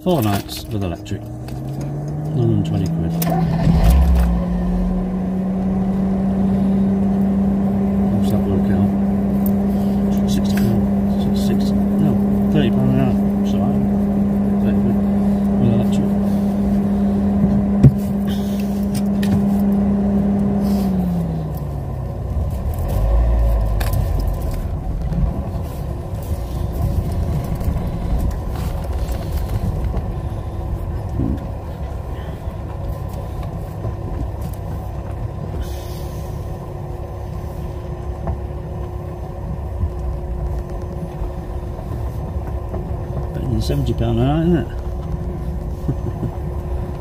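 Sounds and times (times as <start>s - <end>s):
motorhome engine humming: 0.0s - 47.0s.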